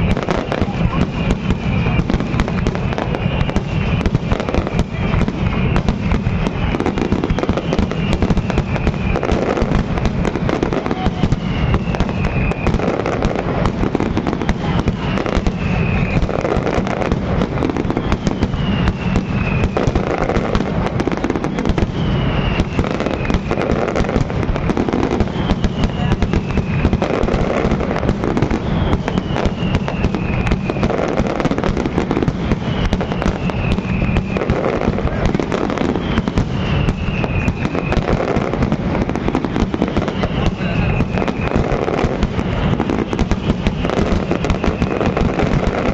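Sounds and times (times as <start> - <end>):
falling firework whistle: 0.0 - 45.9
fireworks bursts and crackling bangs: 0.0 - 45.9.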